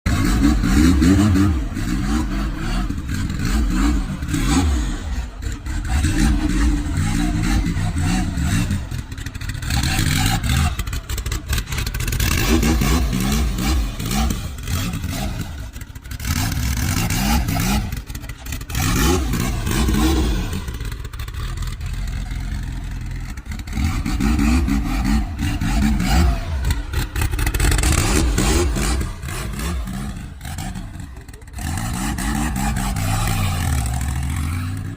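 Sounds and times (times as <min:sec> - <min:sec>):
turbocharged car engine revving: 0:00.0 - 0:34.9
exhaust crackles: 0:00.1 - 0:34.9.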